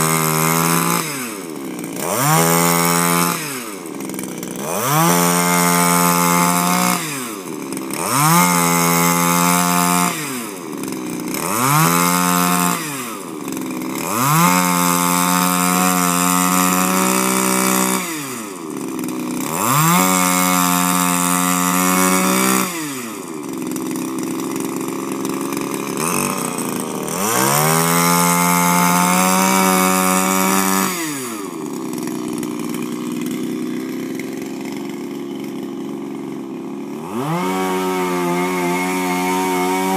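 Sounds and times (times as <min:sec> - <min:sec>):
power broom engine revving: 0:00.0 - 0:39.9.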